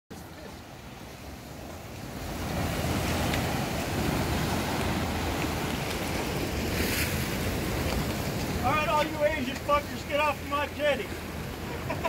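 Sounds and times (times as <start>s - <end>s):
wind rumbling on microphone: 0.1s - 11.9s
surf breaking against rocks: 0.2s - 12.0s.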